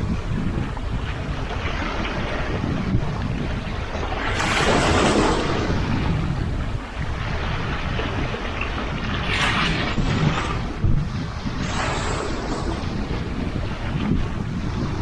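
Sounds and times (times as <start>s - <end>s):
waves washing onto shore: 0.0s - 15.0s
wind buffeting microphone: 0.0s - 15.0s.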